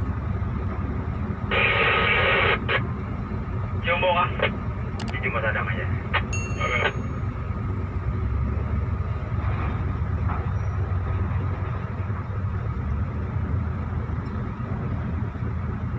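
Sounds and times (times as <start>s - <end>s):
diesel truck engine rumbling: 0.0s - 15.9s.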